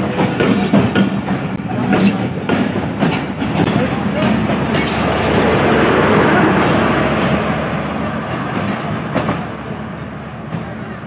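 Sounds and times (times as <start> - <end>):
train coaches rolling past: 0.0 - 11.0.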